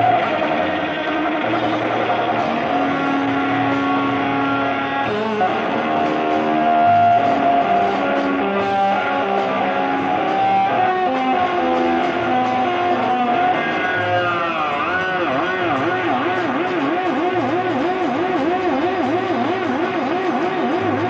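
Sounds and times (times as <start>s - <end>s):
bass guitar: 0.0s - 21.0s
electric guitar lead: 0.0s - 21.0s.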